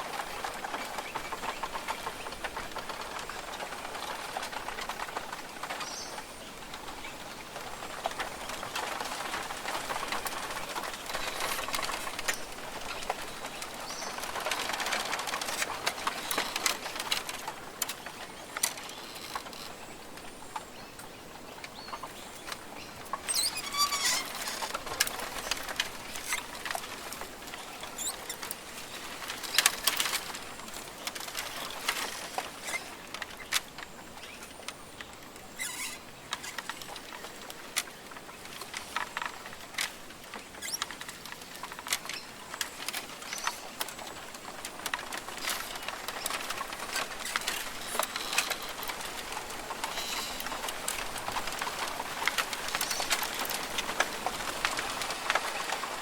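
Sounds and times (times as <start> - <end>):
small clicks taps and rustles: 0.0 - 56.0.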